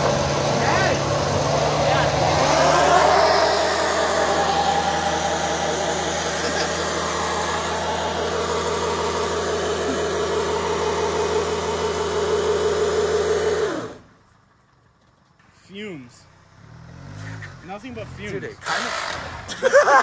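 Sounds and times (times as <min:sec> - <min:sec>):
car engine at high revs cutting out: 0:00.0 - 0:14.1, 0:16.5 - 0:20.0.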